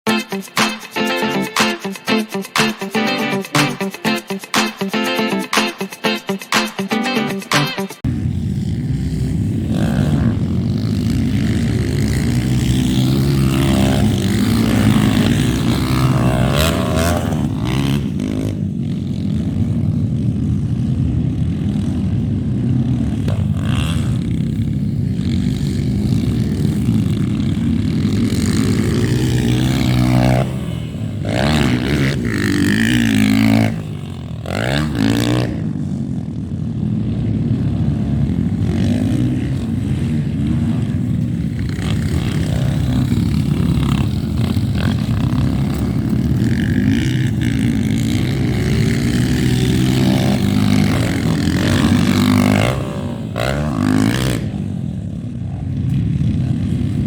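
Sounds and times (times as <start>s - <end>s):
dirt bike engines revving: 6.8s - 57.0s.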